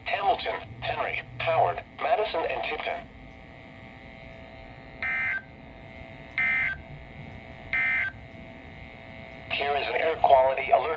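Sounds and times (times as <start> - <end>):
buzzy digital data bursts: 0.0 - 10.9
faint radio hum: 0.0 - 10.9.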